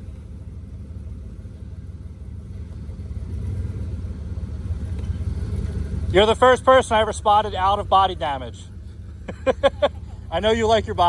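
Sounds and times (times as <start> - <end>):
engine rumbling at low revs: 0.0 - 11.0.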